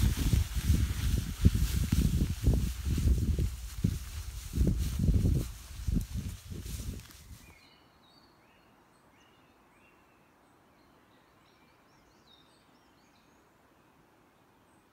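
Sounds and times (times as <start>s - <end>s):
quiet hiss: 0.0s - 14.9s.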